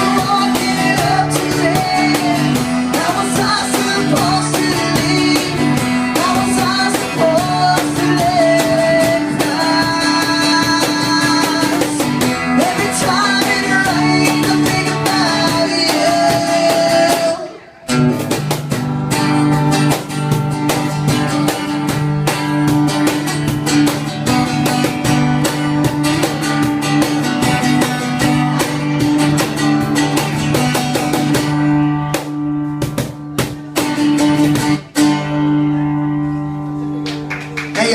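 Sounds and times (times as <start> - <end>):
cajon beating: 0.0 - 37.9
guitar playing: 0.0 - 37.9.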